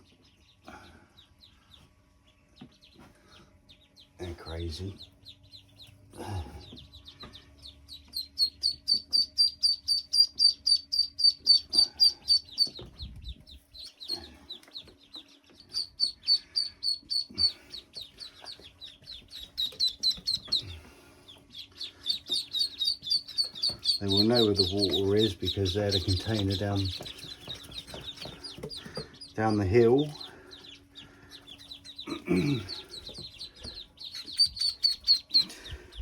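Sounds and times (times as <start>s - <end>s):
ducklings peeping: 0.0s - 36.0s.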